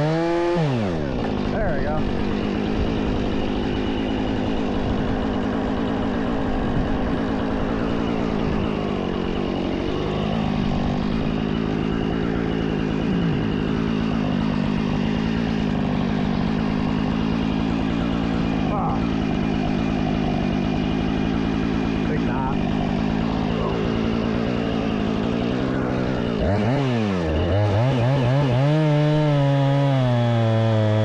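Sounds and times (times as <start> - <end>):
two-stroke chainsaw running: 0.0 - 31.0.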